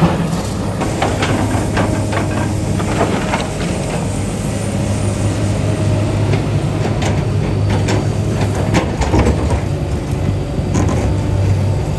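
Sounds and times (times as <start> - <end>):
heavy machinery engine running: 0.0 - 11.9.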